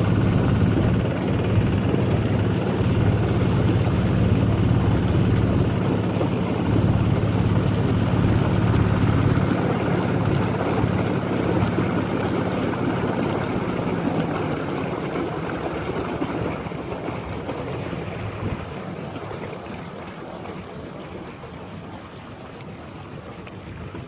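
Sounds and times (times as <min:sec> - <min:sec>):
boat engine humming: 0:00.0 - 0:24.0
water noise: 0:00.0 - 0:24.0
wind: 0:00.0 - 0:24.0.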